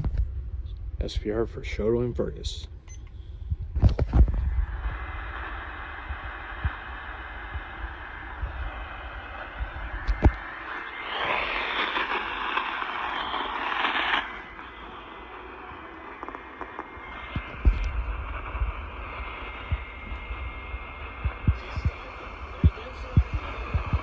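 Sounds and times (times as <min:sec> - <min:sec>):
radio static hiss: 0:03.8 - 0:24.0.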